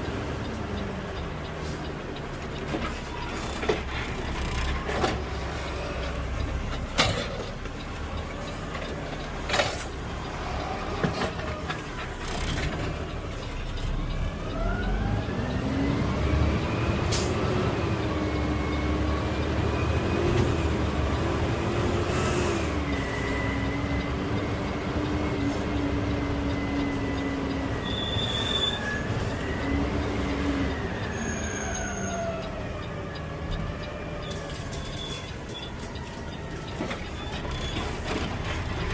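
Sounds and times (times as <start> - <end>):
garbage truck engine drone: 0.0 - 38.9.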